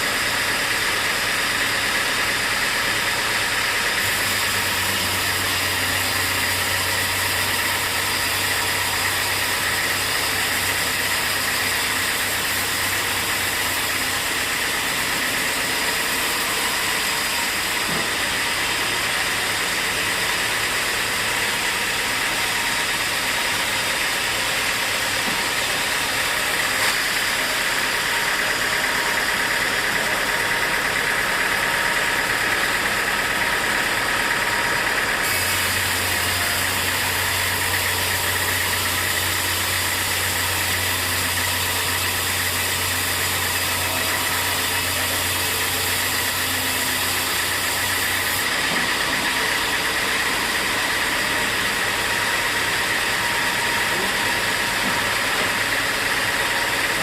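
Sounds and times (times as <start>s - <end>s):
high mechanical whine: 0.0s - 57.0s
sawmill machinery hissing: 0.0s - 57.0s.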